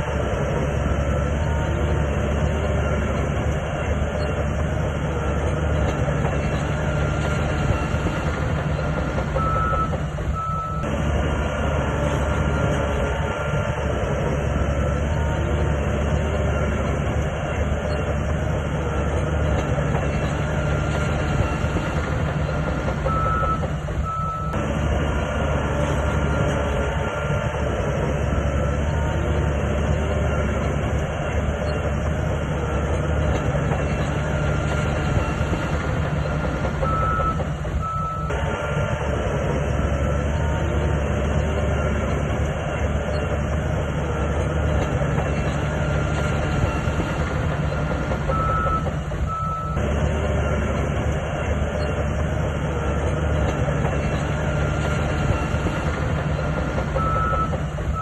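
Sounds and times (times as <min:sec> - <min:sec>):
bulldozer diesel engine: 0:00.0 - 0:58.0
rattle of tracks: 0:00.0 - 0:58.0.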